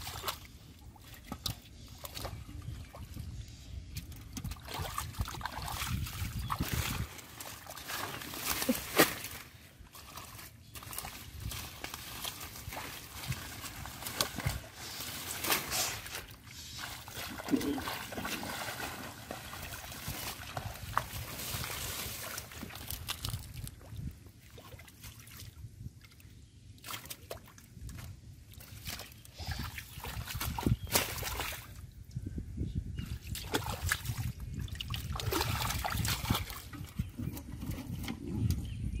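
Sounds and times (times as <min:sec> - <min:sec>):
water splashes: 0:00.0 - 0:03.2, 0:04.1 - 0:26.2, 0:26.8 - 0:31.8, 0:33.2 - 0:37.0
mud and water squelching: 0:00.0 - 0:32.1, 0:33.0 - 0:38.8.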